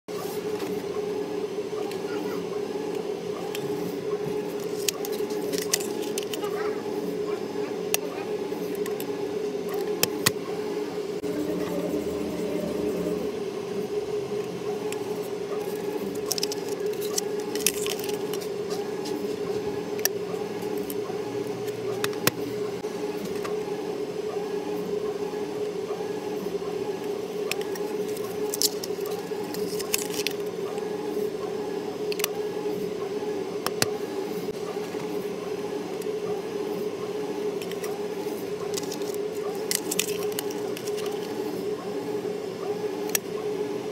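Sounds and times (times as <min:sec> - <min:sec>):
steady pulsing hum: 0:00.1 - 0:43.9.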